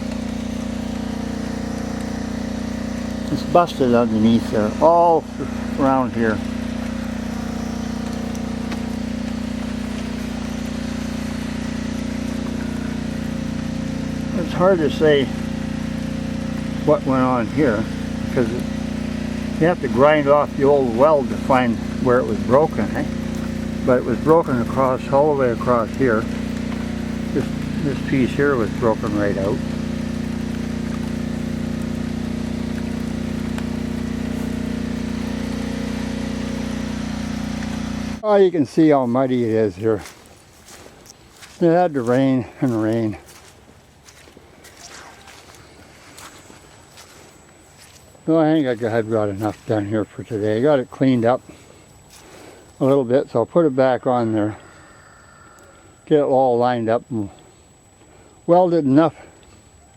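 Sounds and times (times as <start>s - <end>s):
engine idling hum: 0.0s - 59.9s.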